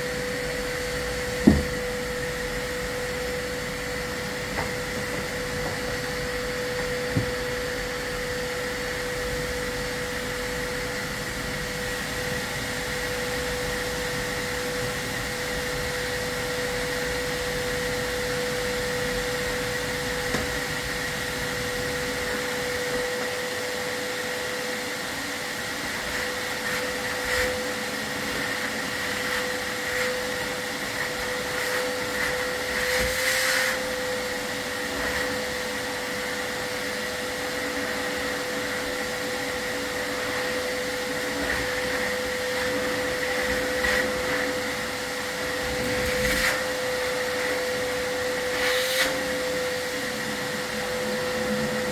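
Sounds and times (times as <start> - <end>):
vacuum cleaner whining: 0.0 - 51.9.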